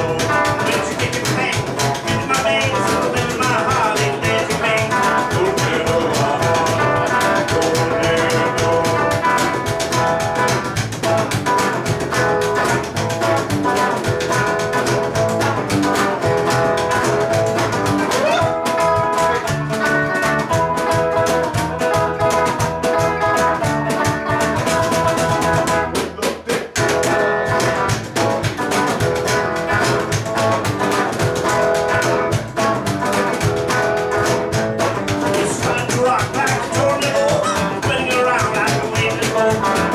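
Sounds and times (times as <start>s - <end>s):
electric guitar through amp: 0.0s - 26.2s, 26.8s - 39.9s
live band playing: 0.0s - 39.9s.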